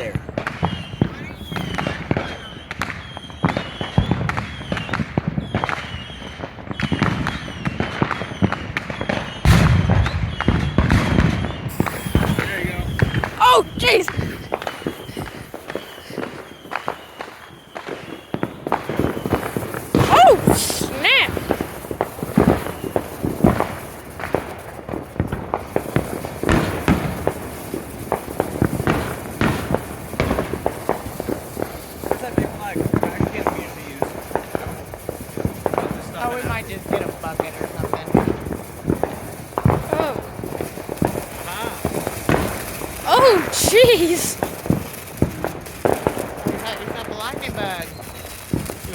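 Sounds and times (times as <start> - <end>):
rushing firework burst: 0.0 - 6.1, 9.2 - 48.9
fireworks popping and crackling: 0.0 - 48.9.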